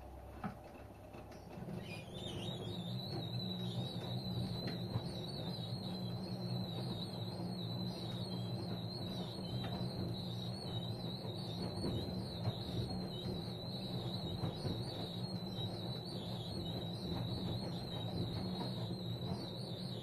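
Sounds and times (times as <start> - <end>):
washing machine drum whine: 0.0 - 20.0.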